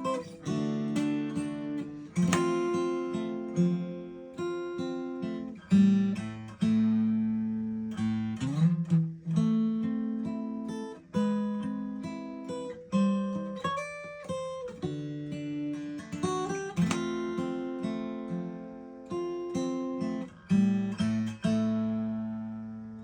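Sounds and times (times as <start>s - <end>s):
acoustic guitar chords: 0.0s - 23.0s.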